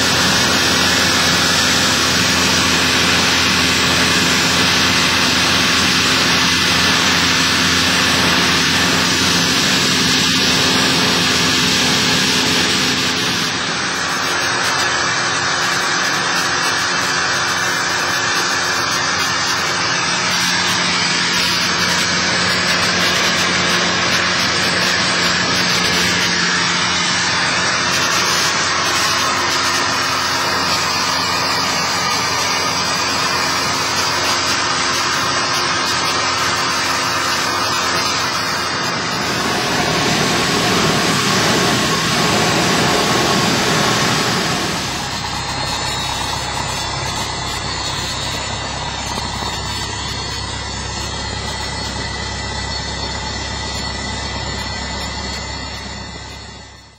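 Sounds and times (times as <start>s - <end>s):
propeller aircraft engine in flight: 0.0s - 56.9s.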